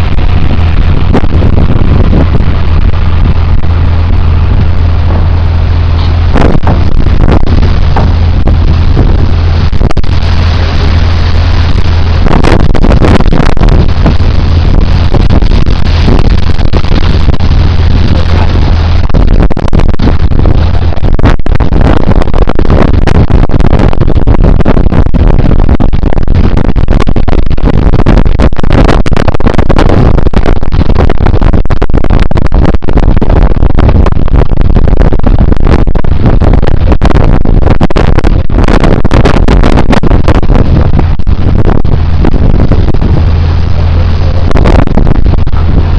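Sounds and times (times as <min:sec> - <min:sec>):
motorboat engine humming: 0:00.0 - 0:45.9
water noise: 0:00.0 - 0:45.9
wind noise on microphone: 0:00.0 - 0:45.9.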